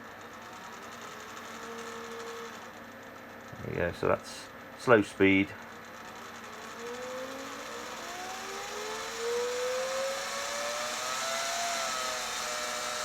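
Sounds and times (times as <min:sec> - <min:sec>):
welder wire-feed motor whining: 0:00.0 - 0:13.0.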